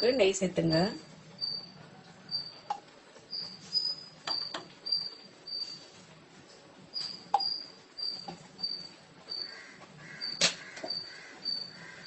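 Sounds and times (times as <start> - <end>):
cricket chirping: 0.9 - 5.9, 6.9 - 12.0.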